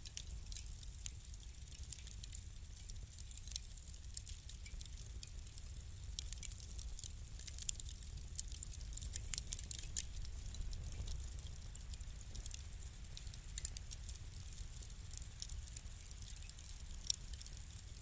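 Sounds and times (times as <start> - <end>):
fire crackling and popping: 0.0 - 18.0
low rumble of burning: 0.0 - 18.0.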